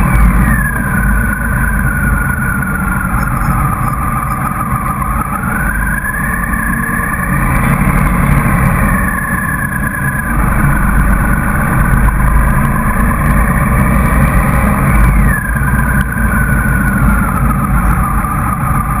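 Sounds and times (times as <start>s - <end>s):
motorcycle engine whine: 0.0s - 19.0s.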